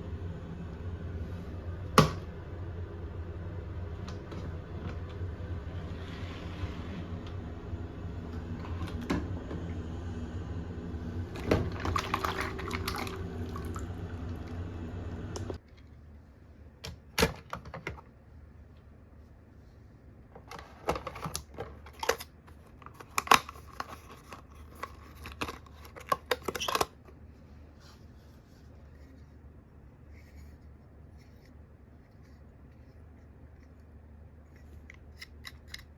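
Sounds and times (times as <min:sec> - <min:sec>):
steady background hum: 0:00.0 - 0:35.9.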